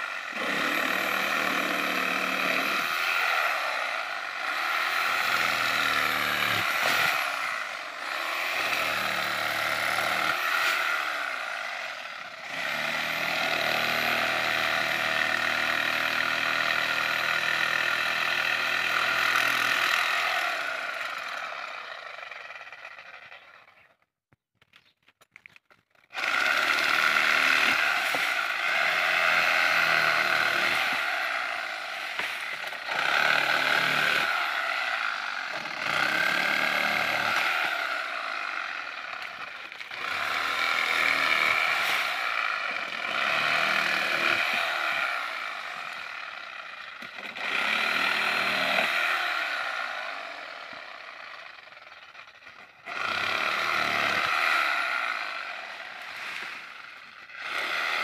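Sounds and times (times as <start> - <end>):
electric saw cutting: 0.0 - 23.9, 26.1 - 58.0.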